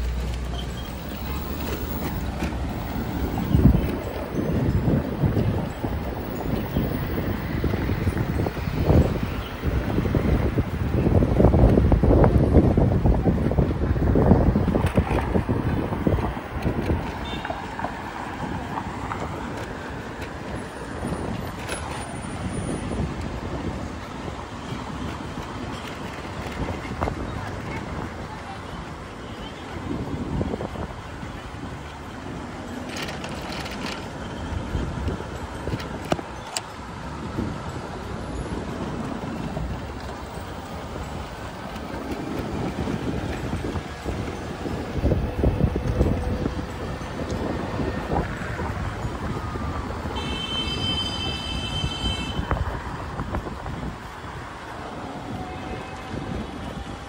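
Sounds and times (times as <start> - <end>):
road noise: 0.0 - 57.0
street traffic: 0.0 - 57.0
wind rumbling on microphone: 0.0 - 57.0.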